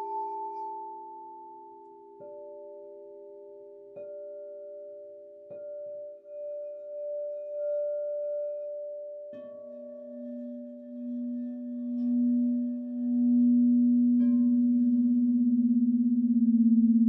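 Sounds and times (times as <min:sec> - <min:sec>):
low singing bowl tone: 0:00.0 - 0:17.0.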